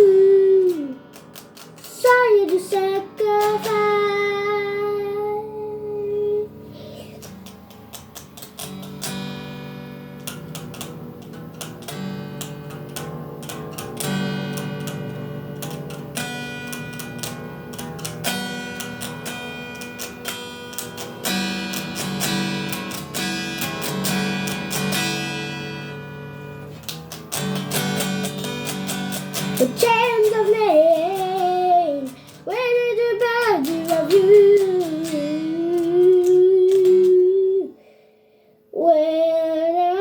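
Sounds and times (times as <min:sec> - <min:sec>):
acoustic guitar picking: 0:00.0 - 0:37.7.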